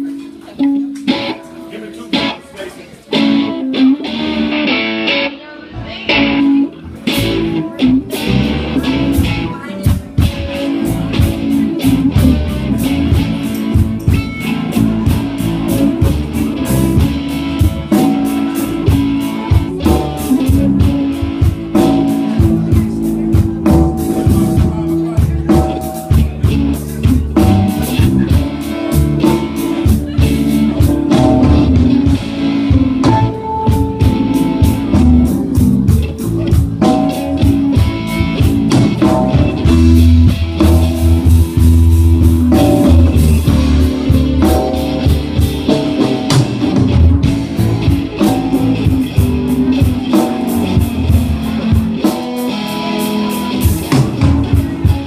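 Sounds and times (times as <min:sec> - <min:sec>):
bass guitar: 0:00.0 - 0:55.0
electric guitars: 0:00.0 - 0:55.0
drum kit beat: 0:06.1 - 0:55.0.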